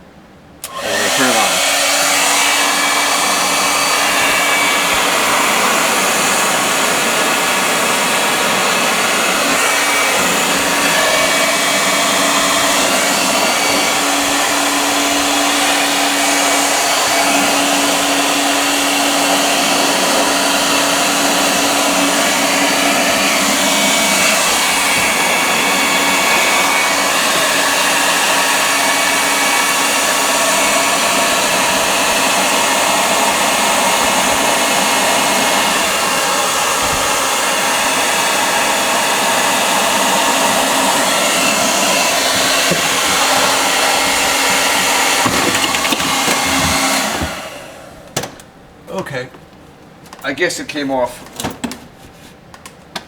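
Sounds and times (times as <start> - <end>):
hairdryer blowing: 0.6 - 48.4.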